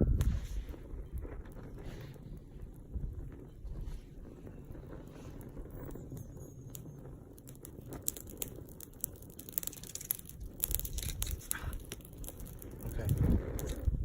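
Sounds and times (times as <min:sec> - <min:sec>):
campfire crackling and popping: 0:00.0 - 0:14.0
wind rumble on microphone: 0:00.0 - 0:14.0.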